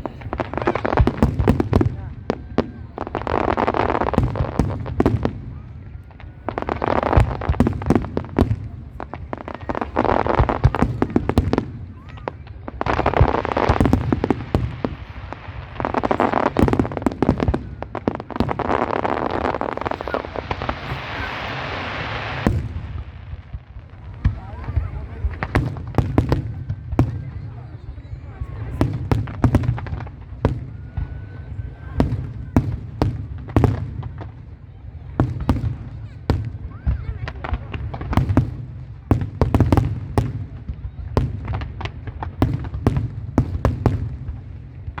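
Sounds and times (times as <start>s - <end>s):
fireworks bangs and crackling: 0.0s - 45.0s.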